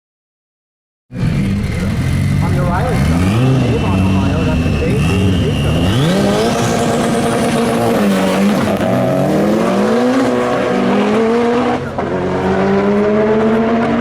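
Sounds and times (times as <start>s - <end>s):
race car engine at high revs: 1.1s - 14.0s.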